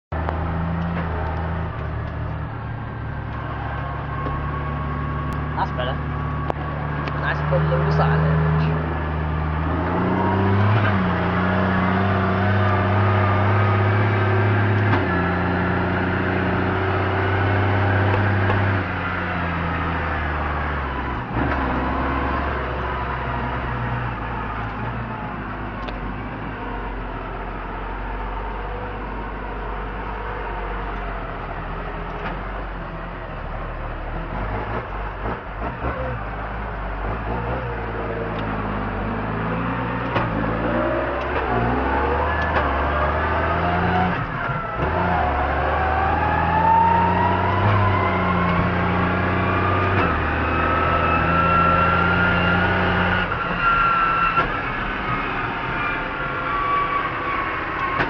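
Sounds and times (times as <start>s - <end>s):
rising tractor whine: 0.1s - 58.0s.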